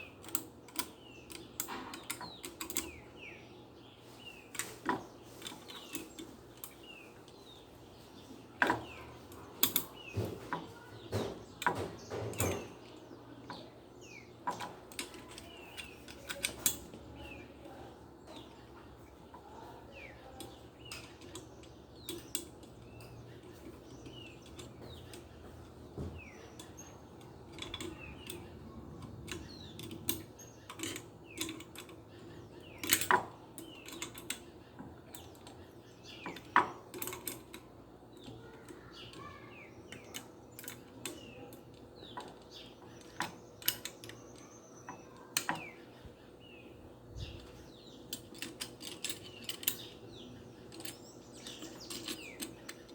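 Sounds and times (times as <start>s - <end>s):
birds chirping faintly: 0.0s - 52.9s.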